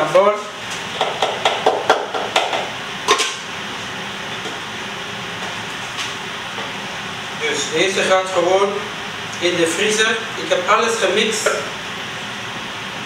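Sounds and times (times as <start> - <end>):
kitchen appliance whirring hum: 0.0 - 13.0.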